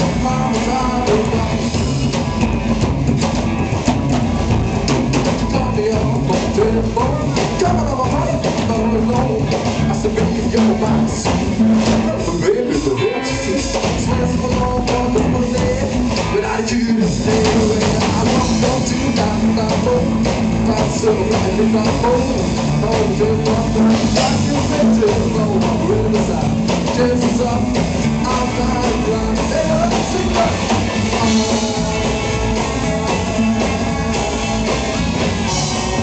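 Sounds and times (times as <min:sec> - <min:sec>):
person singing: 0:00.0 - 0:02.0, 0:05.2 - 0:36.0
double bass: 0:00.0 - 0:36.0
drum kit: 0:00.0 - 0:36.0
electric guitar: 0:00.0 - 0:36.0.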